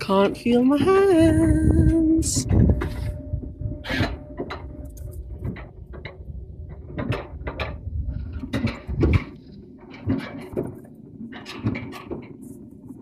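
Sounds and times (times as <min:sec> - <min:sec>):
coaster sled rattling on track: 0:00.0 - 0:13.0.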